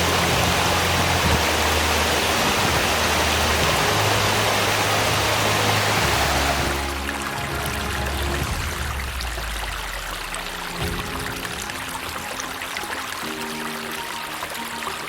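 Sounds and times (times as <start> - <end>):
low held notes: 0.0 - 15.0
waterfall rushing: 0.0 - 15.0.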